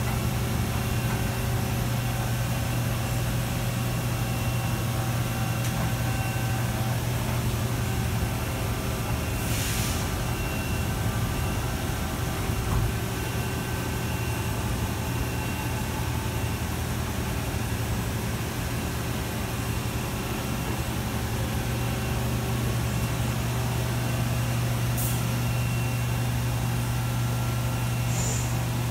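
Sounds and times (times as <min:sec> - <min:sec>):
machine electrical hum: 0:00.0 - 0:28.9.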